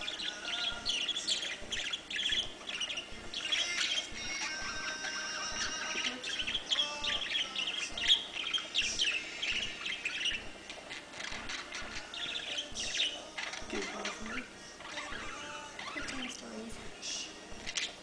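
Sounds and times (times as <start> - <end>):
budgerigar warbling song: 0.0 - 16.4.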